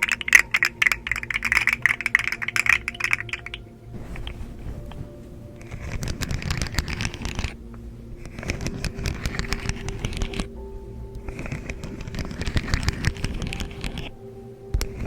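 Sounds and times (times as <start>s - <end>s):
rapid crackling clicks: 0.0s - 14.1s
soft rustling and scraping: 0.0s - 14.2s.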